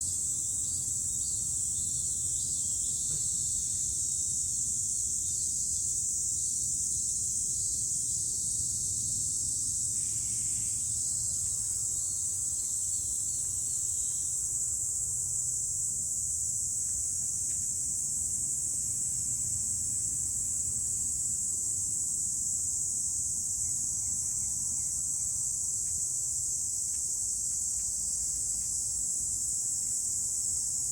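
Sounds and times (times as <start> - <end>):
cicadas buzzing: 0.0 - 30.9.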